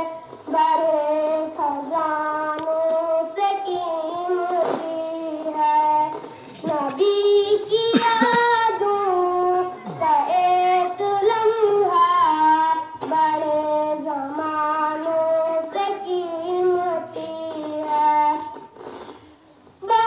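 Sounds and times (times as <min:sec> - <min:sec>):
boy chanting devotional poem: 0:00.0 - 0:18.7.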